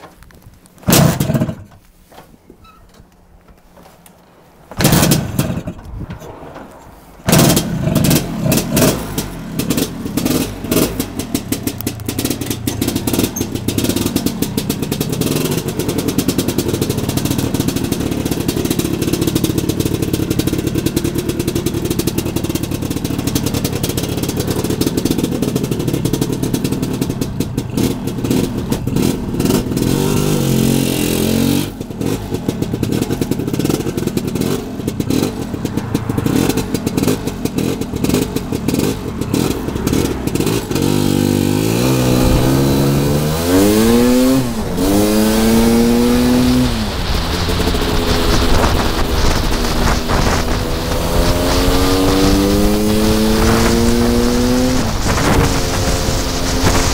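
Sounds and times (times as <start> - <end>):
scooter engine starting and revving: 0.2 - 1.8, 4.7 - 56.9.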